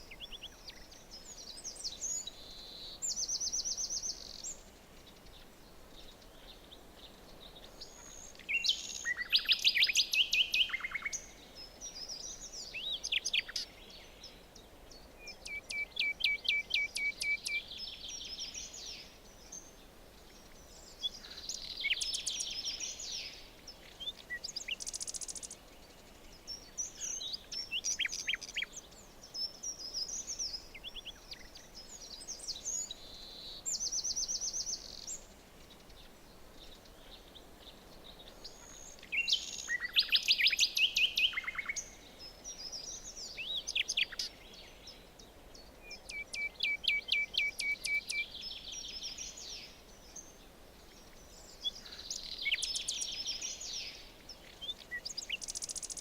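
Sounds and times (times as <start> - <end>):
faint steady hiss: 0.0 - 56.0
songbirds singing: 0.0 - 56.0.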